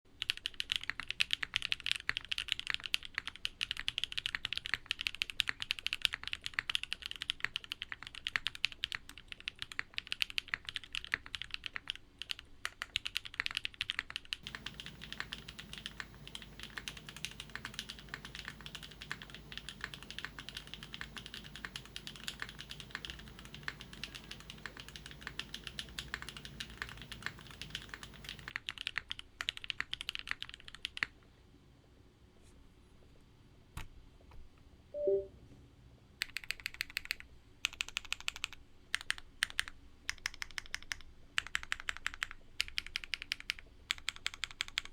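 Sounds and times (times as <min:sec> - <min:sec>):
mechanical keyboard typing: 0:00.2 - 0:31.1, 0:36.2 - 0:44.9.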